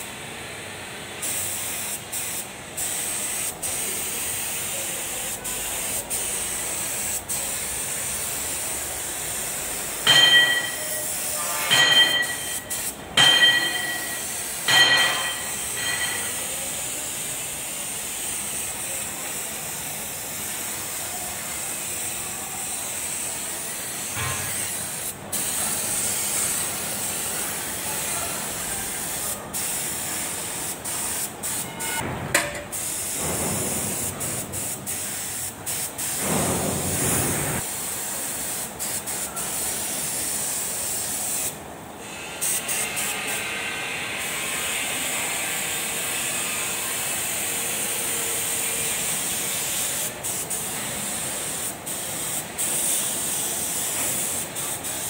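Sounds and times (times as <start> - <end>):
paint spray gun hissing: 1.2 - 31.6, 32.5 - 41.6, 46.9 - 55.0.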